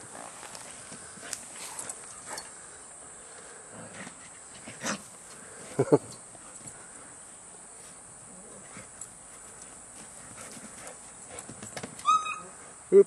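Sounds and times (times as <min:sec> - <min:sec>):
dogs playing on dirt: 0:00.0 - 0:12.8
steady high hiss: 0:00.0 - 0:13.0.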